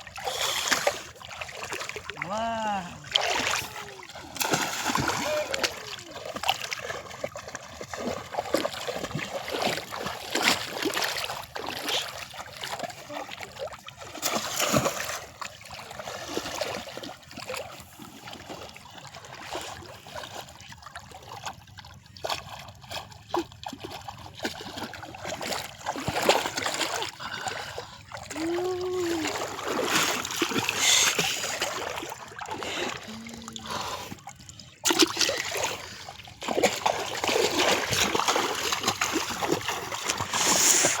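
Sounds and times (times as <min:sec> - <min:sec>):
water splashing and sloshing: 0:00.0 - 0:41.0.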